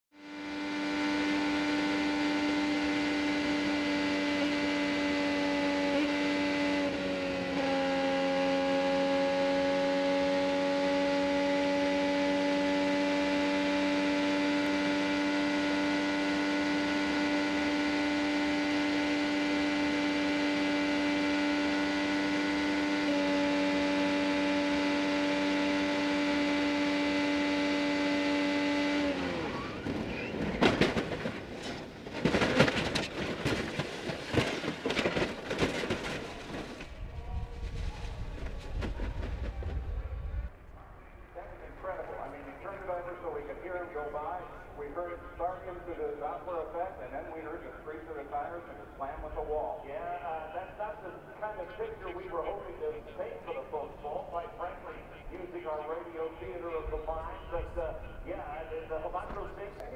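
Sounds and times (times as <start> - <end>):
race car engine at full throttle: 0.1 - 49.8, 50.5 - 59.9.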